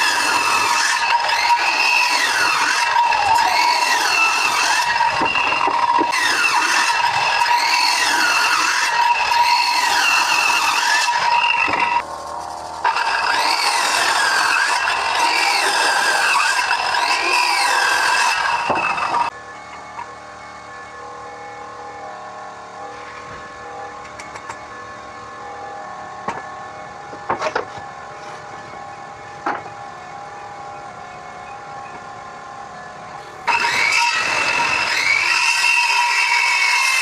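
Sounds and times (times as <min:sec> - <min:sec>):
power tool whining on wood: 0:00.0 - 0:12.2, 0:12.8 - 0:32.1, 0:33.2 - 0:37.0.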